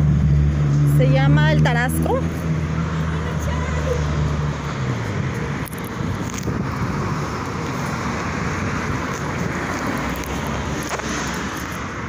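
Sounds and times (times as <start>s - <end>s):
street traffic hum: 0.0s - 12.0s
wind buffeting microphone: 1.3s - 12.0s.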